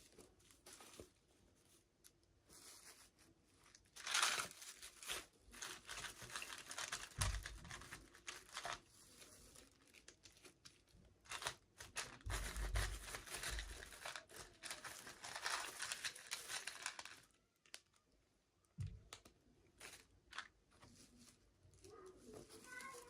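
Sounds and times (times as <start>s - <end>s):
plastic packaging crinkling and tearing: 2.5s - 18.0s, 19.8s - 23.0s.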